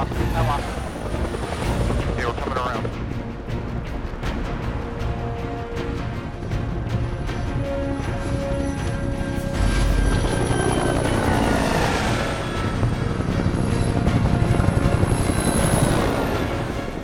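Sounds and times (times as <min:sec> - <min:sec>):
film score music: 0:00.0 - 0:17.0
helicopter rotors chopping: 0:00.0 - 0:17.0.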